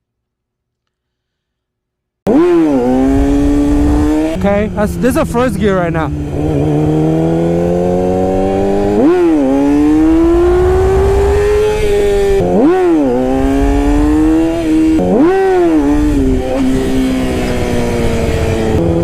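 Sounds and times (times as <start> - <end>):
motorcycle engine revving: 2.3 - 19.0.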